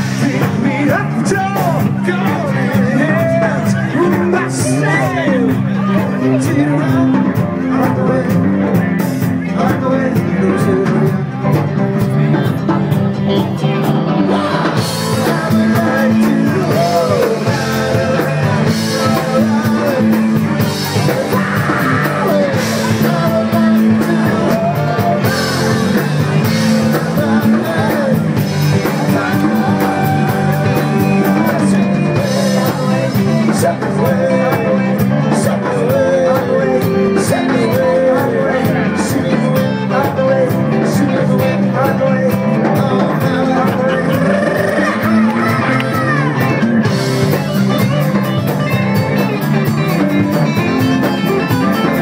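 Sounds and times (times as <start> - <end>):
drums: 0.0 - 52.0
electric guitar: 0.0 - 52.0
person singing: 0.0 - 52.0.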